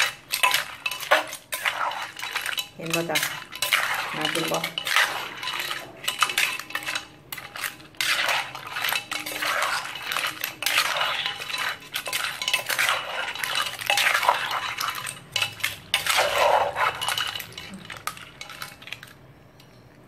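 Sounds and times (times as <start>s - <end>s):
metal spoon scraping clay mortar: 0.0s - 19.3s.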